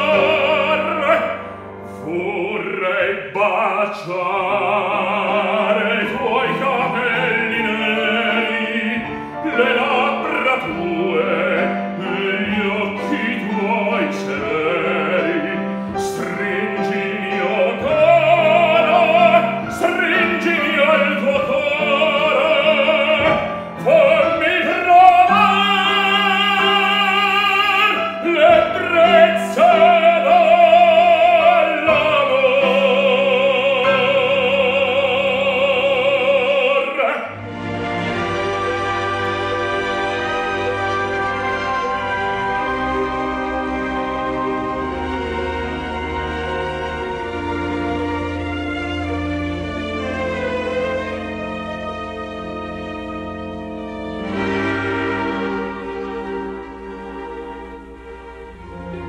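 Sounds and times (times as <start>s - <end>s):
baritone singing opera: 0.0s - 51.4s
piano accompaniment: 0.0s - 59.0s
soft instrumental music: 0.0s - 59.0s.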